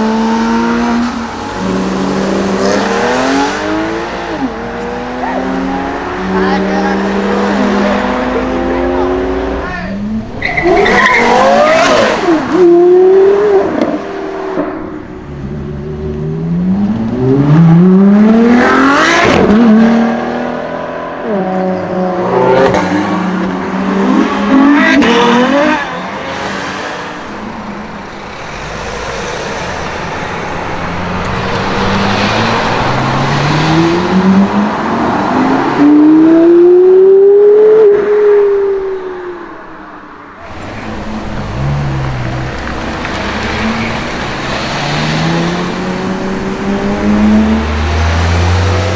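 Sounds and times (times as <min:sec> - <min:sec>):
sports car engine accelerating: 0:00.0 - 0:48.9.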